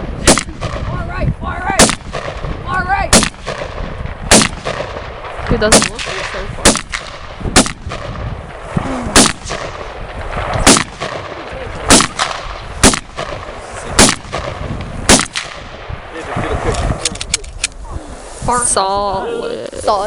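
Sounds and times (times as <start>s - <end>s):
gunshots with echo: 0.1s - 1.0s, 1.7s - 17.0s.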